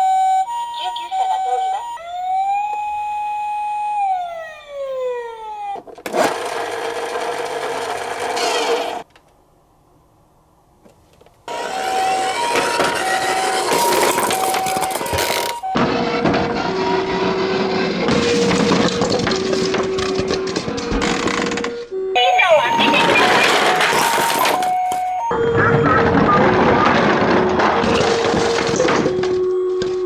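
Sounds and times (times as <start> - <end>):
electronic siren wail: 0.0 - 5.9, 11.5 - 30.0
two-tone ambulance siren: 0.0 - 5.9, 11.5 - 30.0.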